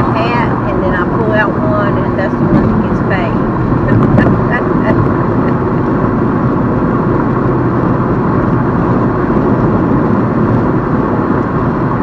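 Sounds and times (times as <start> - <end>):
road and engine noise inside car: 0.0 - 12.0.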